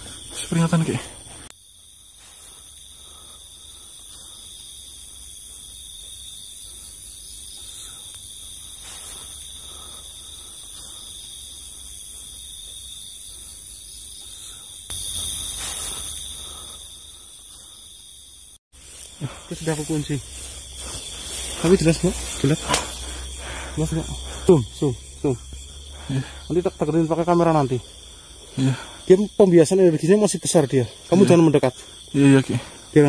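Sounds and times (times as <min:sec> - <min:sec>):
crickets and insects trilling: 0:00.0 - 0:33.0.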